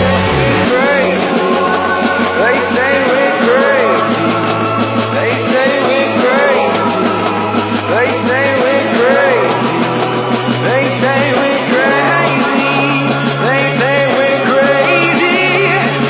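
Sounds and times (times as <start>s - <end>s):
rock song with singing: 0.0s - 16.0s.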